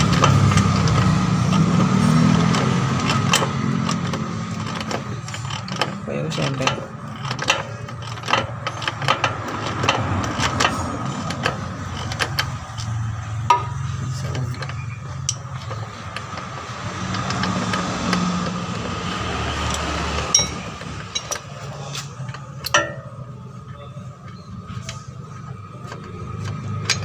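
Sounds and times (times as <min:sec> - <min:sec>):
ratchet wrench clicking: 0:00.1 - 0:23.0.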